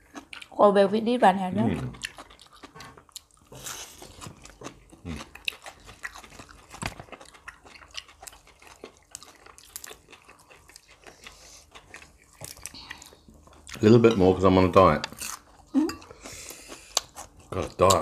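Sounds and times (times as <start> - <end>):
crunching and chewing: 0.0 - 0.6, 1.7 - 14.0, 15.0 - 18.0.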